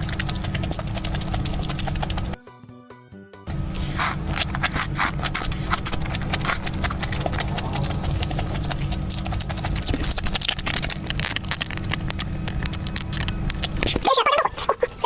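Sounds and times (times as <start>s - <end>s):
crunchy chewing: 0.0s - 2.4s, 3.8s - 15.0s
steady low hum: 0.0s - 2.4s, 3.5s - 15.0s.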